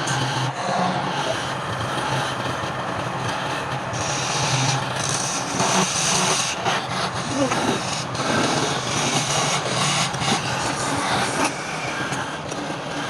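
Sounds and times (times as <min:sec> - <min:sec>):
lathe motor hum: 0:00.0 - 0:13.0.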